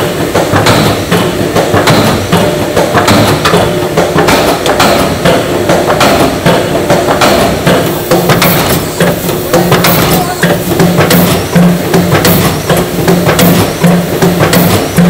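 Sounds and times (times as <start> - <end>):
machinery knocks and clanks: 0.0 - 15.0
steady machine drone: 0.0 - 15.0.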